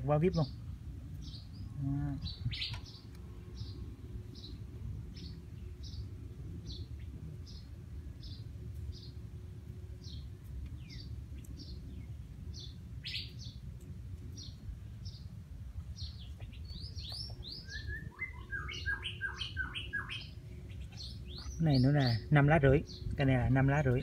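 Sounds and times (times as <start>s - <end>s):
steady low rumble: 0.0s - 24.0s
bird chirping: 1.2s - 9.2s, 10.0s - 13.6s, 14.3s - 24.0s.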